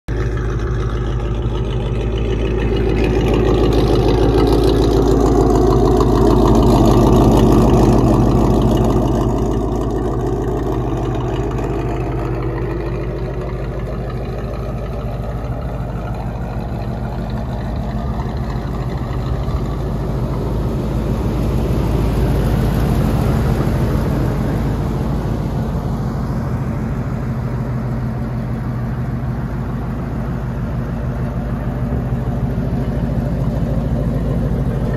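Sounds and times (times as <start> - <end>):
pickup truck engine idling: 0.1 - 34.9.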